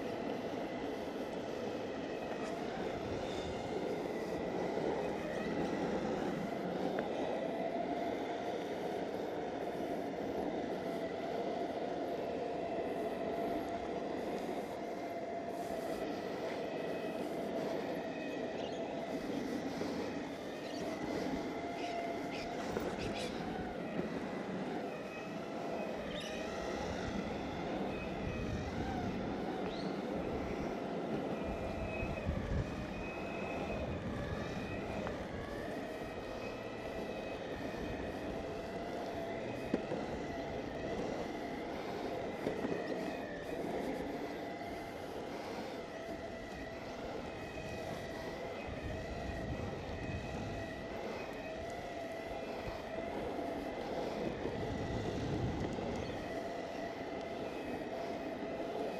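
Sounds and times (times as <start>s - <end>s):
electric motor whine: 0.0s - 58.9s
wheels rolling over asphalt: 0.0s - 58.9s.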